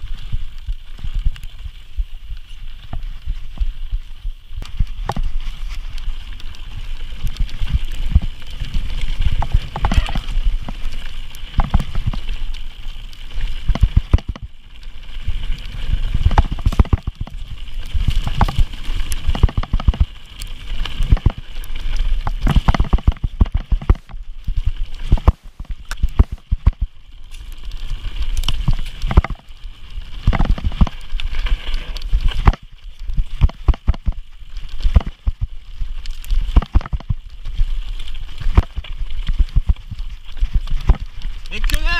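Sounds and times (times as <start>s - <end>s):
bike rattling over rocks: 0.0s - 41.9s.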